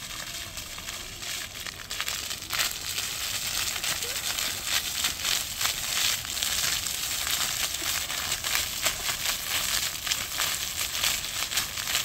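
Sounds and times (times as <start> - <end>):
fountain water splashing on paving: 0.0 - 12.0.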